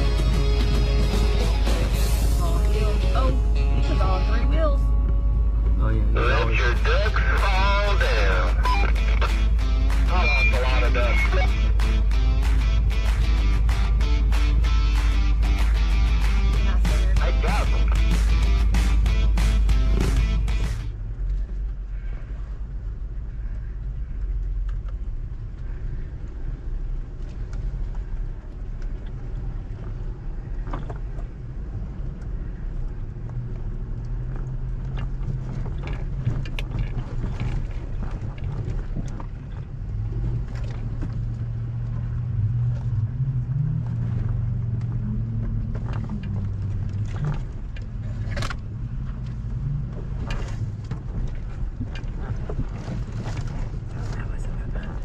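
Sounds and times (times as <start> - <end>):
engine droning at low revs: 0.0 - 55.0.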